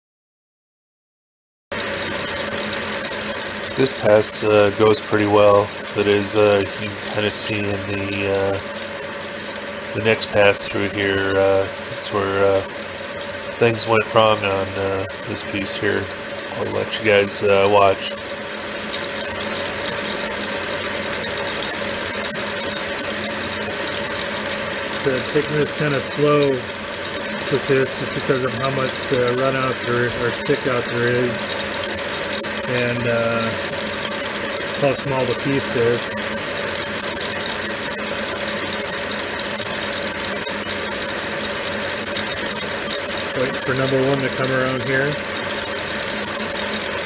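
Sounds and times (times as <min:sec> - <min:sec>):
lathe whining tones: 0:01.7 - 0:47.0
metal lathe humming: 0:01.7 - 0:47.0.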